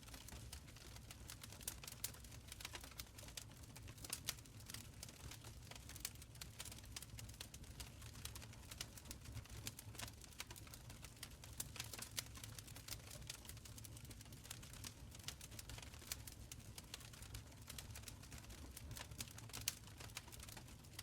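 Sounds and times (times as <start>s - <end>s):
open fire crackling: 0.0s - 21.0s.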